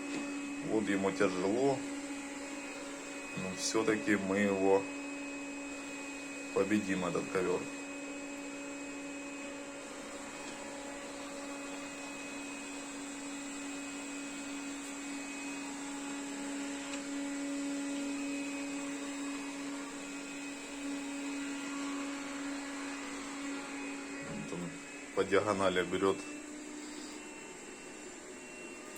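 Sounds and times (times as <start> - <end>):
robot vacuum motor humming: 0.0 - 28.9.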